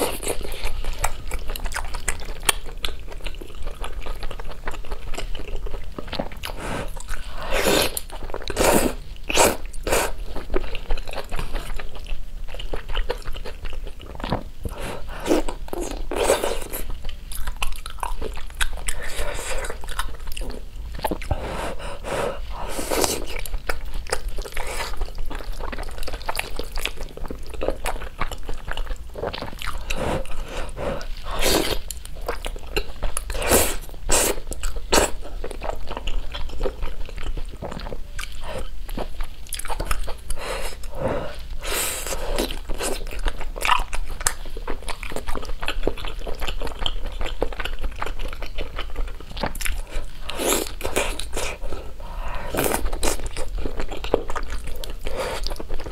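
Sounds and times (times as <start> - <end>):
person chewing noodles: 0.0 - 55.9.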